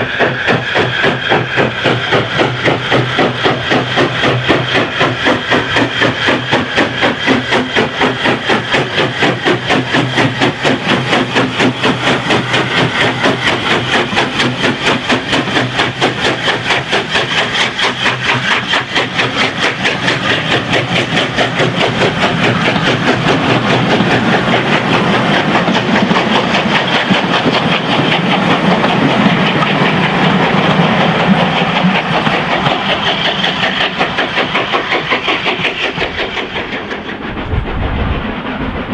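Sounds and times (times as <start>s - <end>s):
steam locomotive exhaust beating: 0.0s - 38.9s.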